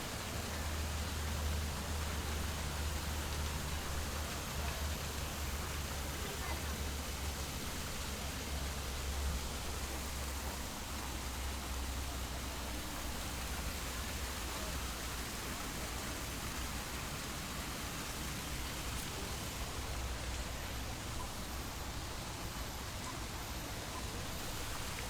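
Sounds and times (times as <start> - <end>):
outdoor hiss: 0.0 - 25.0.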